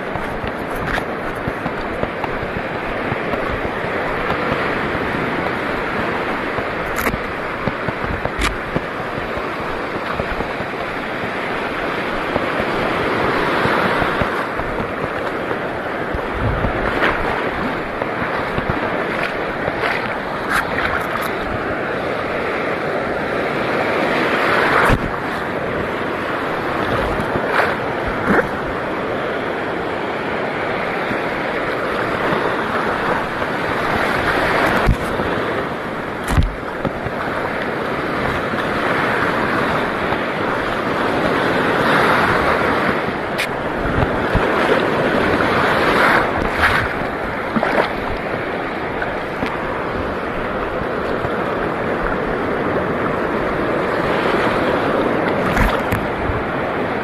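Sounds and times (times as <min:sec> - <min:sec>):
sea water rushing: 0:00.0 - 0:57.0
wind buffeting microphone: 0:00.0 - 0:57.0.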